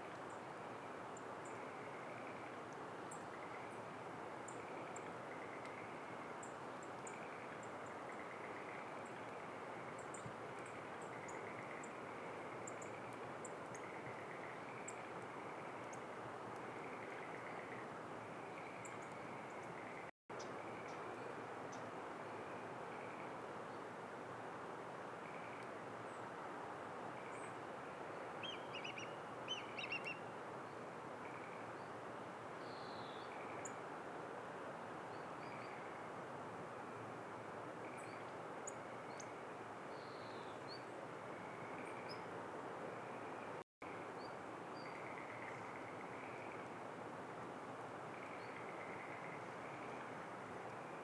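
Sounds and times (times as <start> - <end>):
outdoor background hiss: 0.0 - 51.0.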